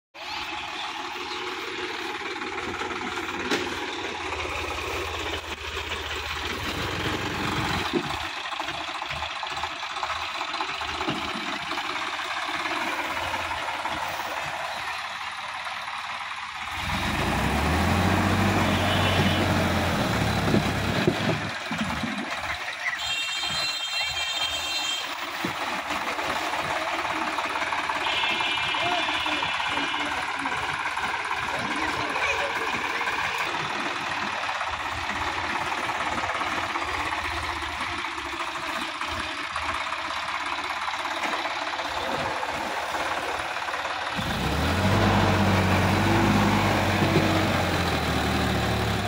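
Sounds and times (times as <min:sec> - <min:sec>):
tractor diesel engine running: 0:00.2 - 0:49.0.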